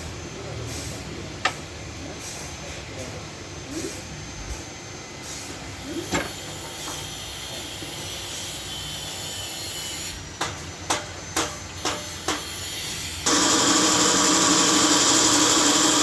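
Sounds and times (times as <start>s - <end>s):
sawmill machinery humming: 3.0s - 16.0s.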